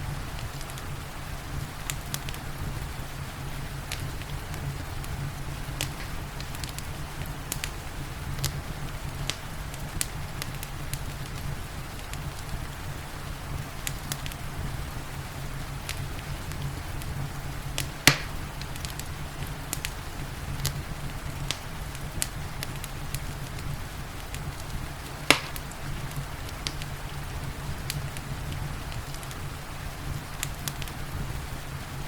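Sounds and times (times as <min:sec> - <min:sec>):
rain hissing: 0:00.0 - 0:32.0
wood fire crackling: 0:00.0 - 0:32.0.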